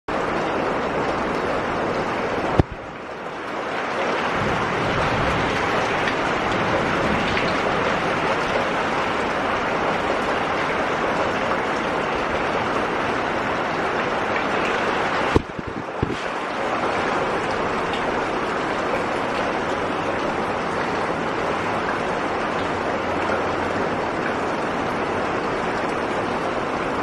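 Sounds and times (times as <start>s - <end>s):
rain on puddle and gravel: 0.1s - 27.0s.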